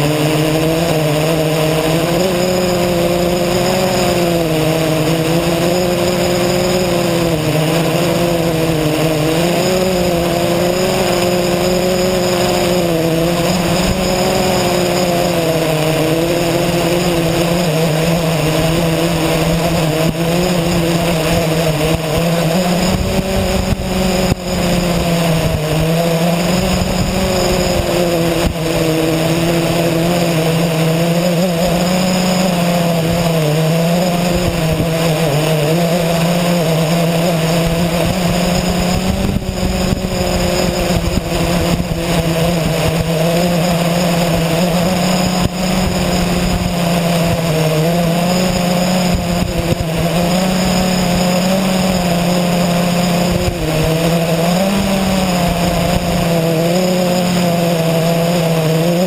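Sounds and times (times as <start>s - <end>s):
quadcopter propellers whining: 0.0s - 59.0s.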